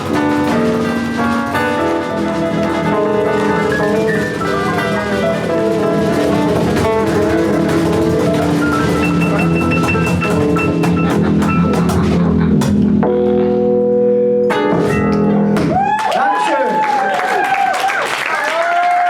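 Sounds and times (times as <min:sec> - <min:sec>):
drum kit: 0:00.0 - 0:13.7, 0:14.5 - 0:16.2
live band playing: 0:00.0 - 0:15.9.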